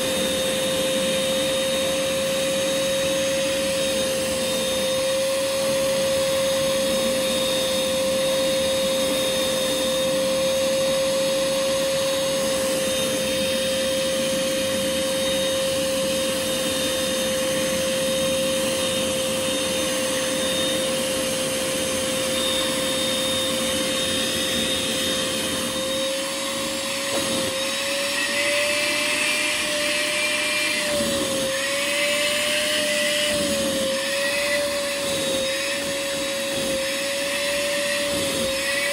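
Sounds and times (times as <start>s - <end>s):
vacuum motor whining: 0.0s - 38.9s.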